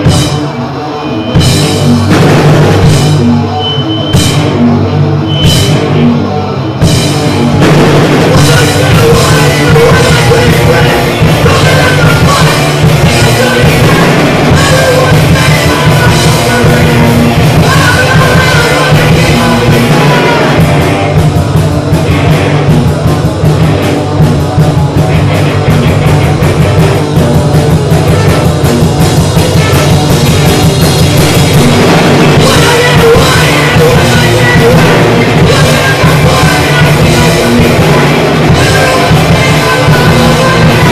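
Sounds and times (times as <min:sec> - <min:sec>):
punk rock band playing live: 0:00.0 - 0:40.9.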